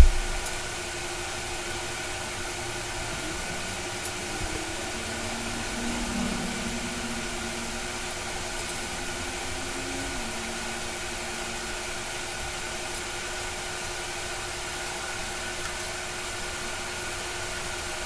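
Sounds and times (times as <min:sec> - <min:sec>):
machine hum with hiss: 0:00.0 - 0:18.0.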